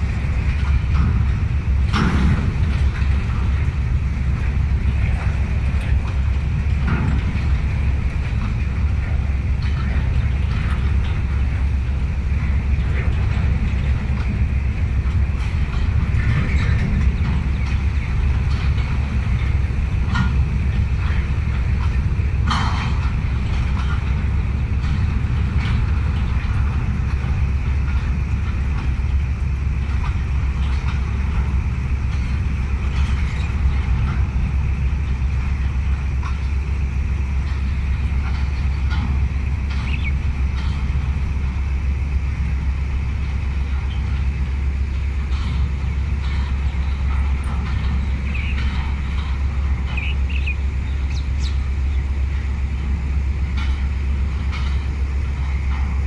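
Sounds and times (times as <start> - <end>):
locomotive diesel engine rumbling: 0.0 - 56.0.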